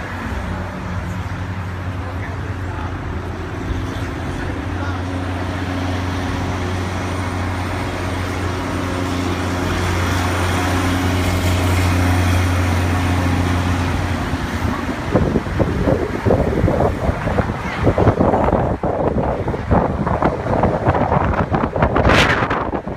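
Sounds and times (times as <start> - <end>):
car engine and road drone: 0.0 - 22.9
wind buffeting microphone: 3.5 - 22.9.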